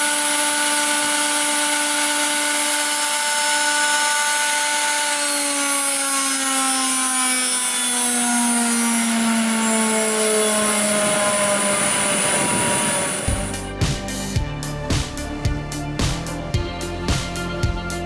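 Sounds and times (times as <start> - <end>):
spindle whine winding down: 0.0 - 18.0.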